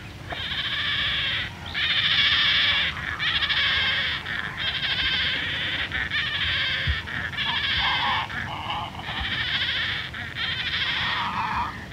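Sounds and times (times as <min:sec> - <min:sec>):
stork fledglings calling: 0:00.0 - 0:11.9.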